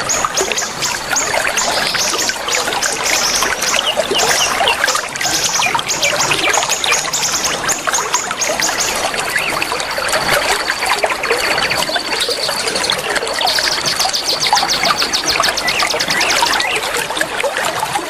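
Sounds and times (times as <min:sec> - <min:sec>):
songbirds chirping and trilling: 0:00.0 - 0:17.0
running water trickling: 0:00.0 - 0:18.0.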